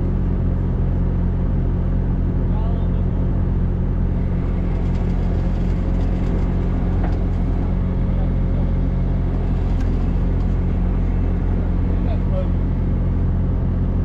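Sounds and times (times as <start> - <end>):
farm machine engine running: 0.0 - 14.0.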